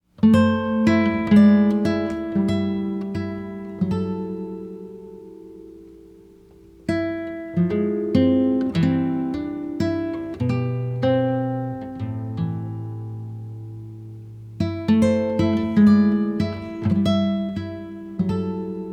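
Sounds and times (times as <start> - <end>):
solo acoustic guitar: 0.0 - 18.9.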